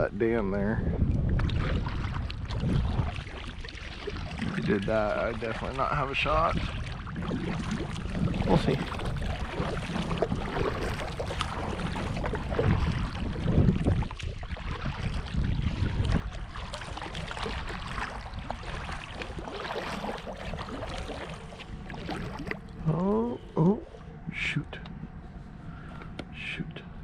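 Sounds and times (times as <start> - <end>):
wind rumble on microphone: 0.0 - 27.0
paddle strokes splashing in water: 1.1 - 24.2.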